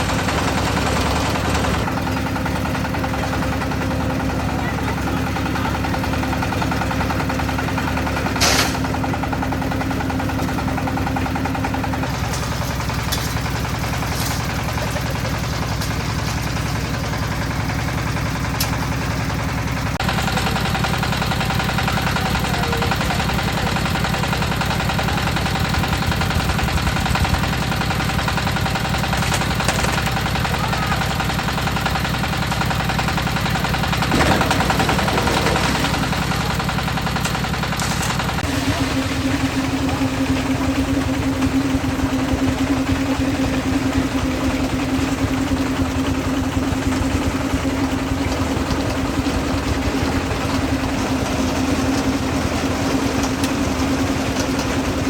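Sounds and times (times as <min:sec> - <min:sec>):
concrete mixer engine chugging: 0:00.0 - 0:55.0.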